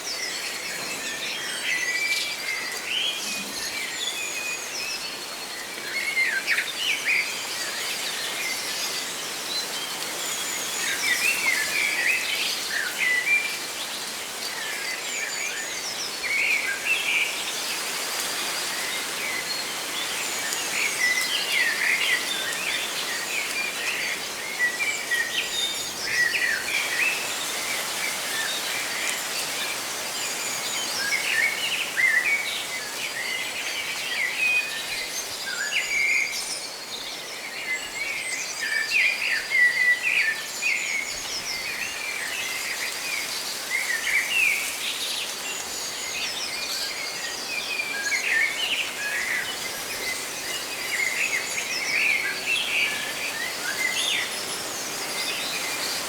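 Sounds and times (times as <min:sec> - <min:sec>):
leaves rustling: 0:00.0 - 0:56.0.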